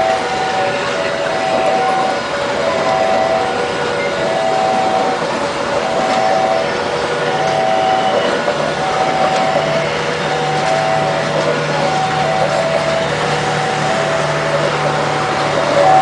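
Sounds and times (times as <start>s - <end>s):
departing train running: 0.0s - 16.0s.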